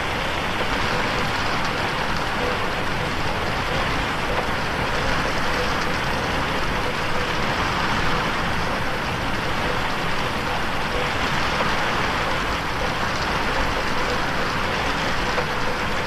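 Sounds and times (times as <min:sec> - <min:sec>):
rain on a window pane: 0:00.0 - 0:16.0.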